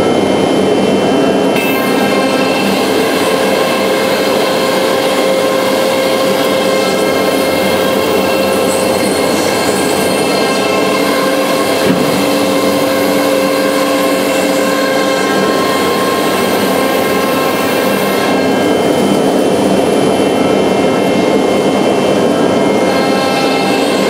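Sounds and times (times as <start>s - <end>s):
router spindle whining: 1.6s - 24.0s.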